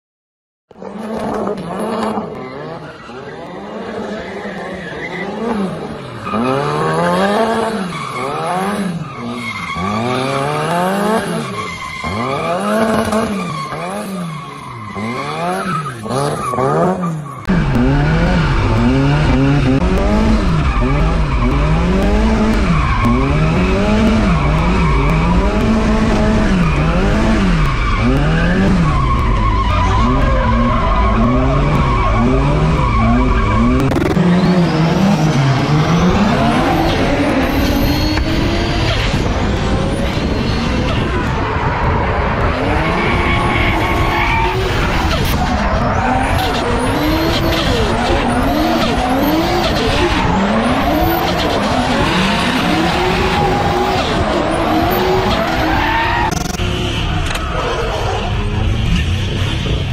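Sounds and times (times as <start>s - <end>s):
tyres skidding: 0.8s - 59.9s
small truck engine revving: 5.2s - 59.9s.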